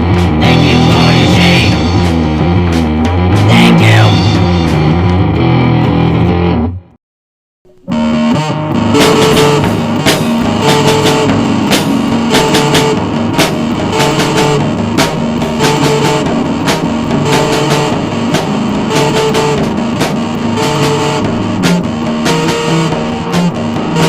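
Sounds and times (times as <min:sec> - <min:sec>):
rock drum beat with cymbals: 0:00.0 - 0:05.0, 0:08.8 - 0:24.0
bass guitar: 0:00.0 - 0:07.0, 0:07.7 - 0:24.0
distorted electric guitar: 0:00.0 - 0:07.0, 0:07.7 - 0:24.0.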